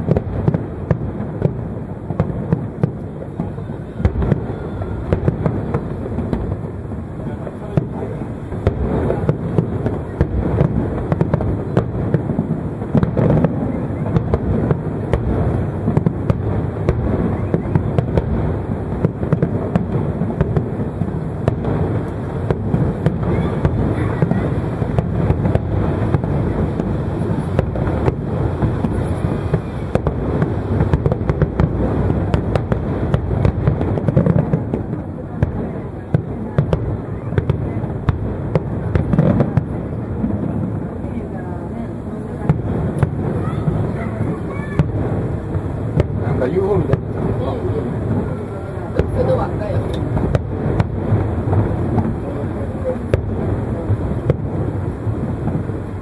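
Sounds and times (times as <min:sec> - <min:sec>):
fireworks booming and cracking: 0:00.0 - 0:56.0.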